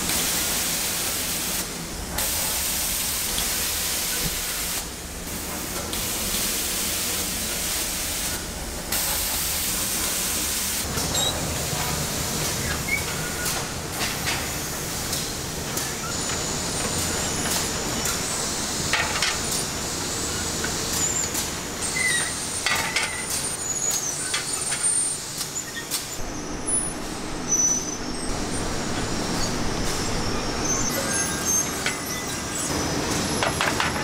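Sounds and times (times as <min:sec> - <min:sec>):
machine hiss and hum: 0:00.0 - 0:34.0.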